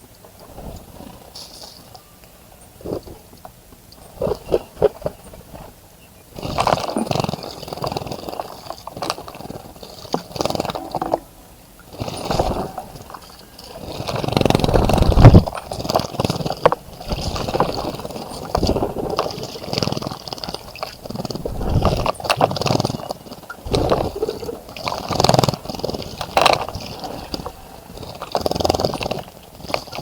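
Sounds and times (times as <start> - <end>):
birds splashing in water: 4.0 - 30.0.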